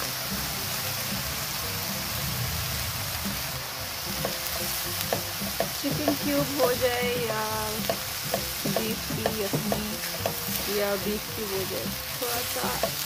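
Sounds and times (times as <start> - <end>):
mince and onions sizzling: 0.0 - 13.0.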